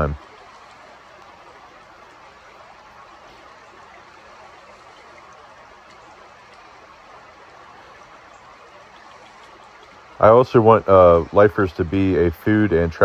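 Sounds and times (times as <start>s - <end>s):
faint rushing background noise: 0.0s - 13.0s.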